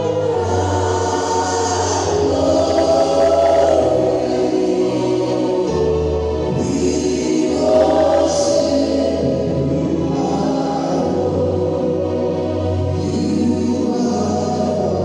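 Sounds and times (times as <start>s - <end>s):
choir singing gospel music: 0.0s - 15.0s
keyboard accompaniment: 0.0s - 15.0s
sustained bass: 0.0s - 15.0s.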